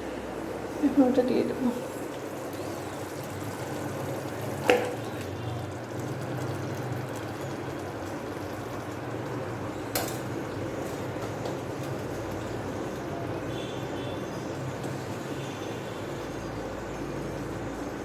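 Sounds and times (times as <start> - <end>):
chicken sizzling in a pan: 1.0 - 17.9.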